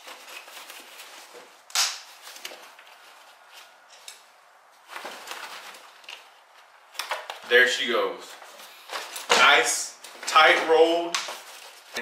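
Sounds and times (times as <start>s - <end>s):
nylon fabric rustling: 0.0s - 12.0s.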